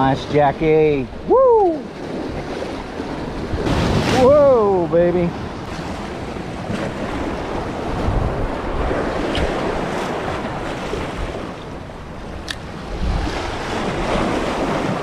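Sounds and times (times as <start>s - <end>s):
sea surf breaking on rocks: 0.0s - 15.0s
wind buffeting microphone: 0.0s - 15.0s.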